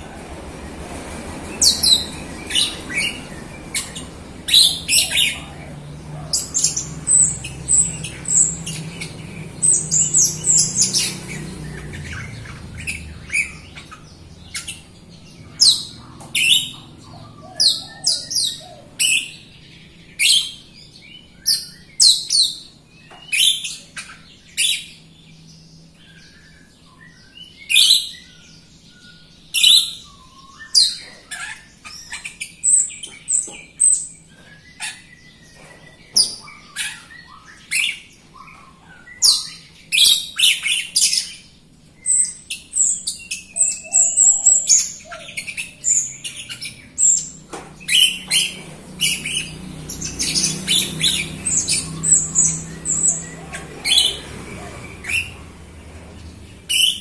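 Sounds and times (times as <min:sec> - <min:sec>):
myna chirping and whistling: 0:01.6 - 0:25.1, 0:25.8 - 0:55.6, 0:56.6 - 0:57.0.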